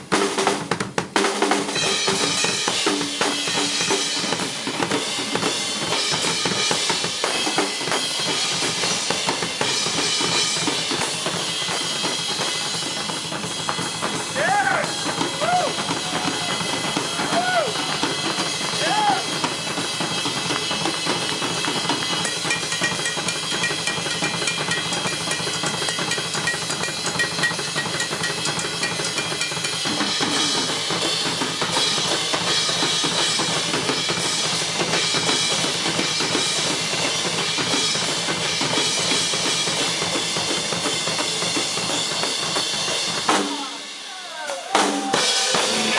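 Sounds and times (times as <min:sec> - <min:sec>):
rock drum solo: 0:00.0 - 0:45.9
crashing cymbals: 0:01.7 - 0:45.9.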